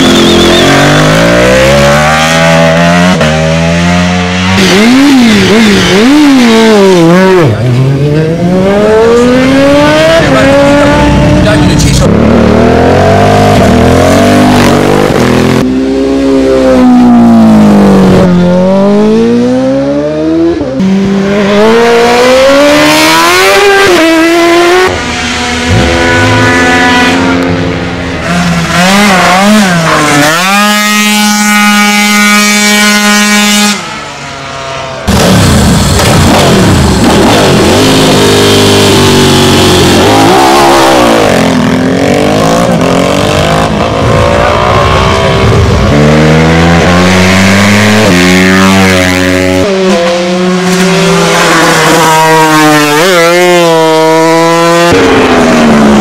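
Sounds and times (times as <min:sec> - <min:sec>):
racing motorcycles revving: 0:00.0 - 0:56.0.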